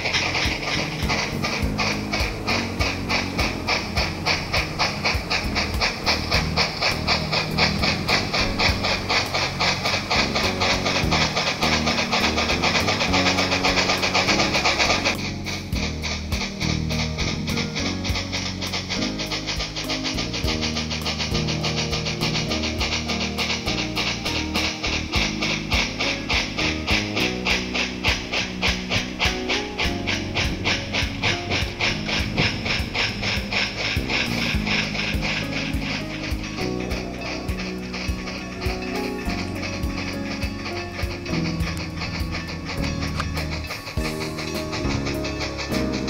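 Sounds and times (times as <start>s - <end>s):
background music low tones: 0.0s - 46.0s
model steam locomotive chuffing: 0.0s - 46.0s.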